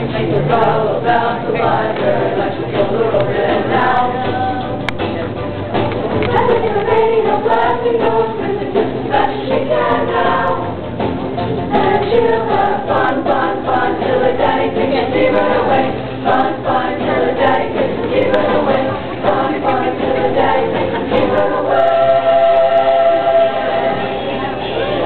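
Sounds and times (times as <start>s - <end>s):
choir singing pop-rock song: 0.0s - 4.8s, 6.3s - 25.0s.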